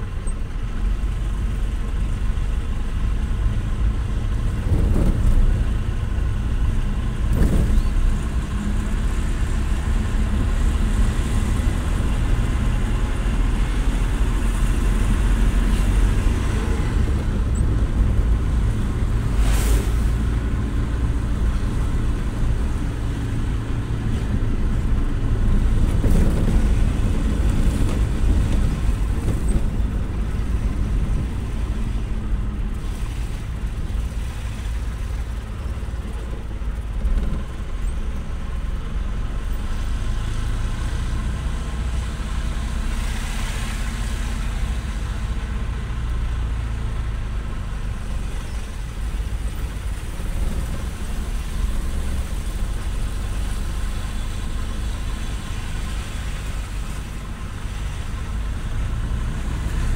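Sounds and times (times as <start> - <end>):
vehicle engine and road rumble: 0.0 - 59.9.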